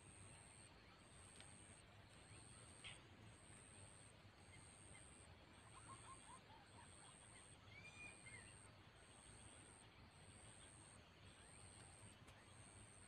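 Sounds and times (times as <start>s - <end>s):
distant animal calls: 0.0s - 13.0s
faint outdoor ambience: 0.0s - 13.0s.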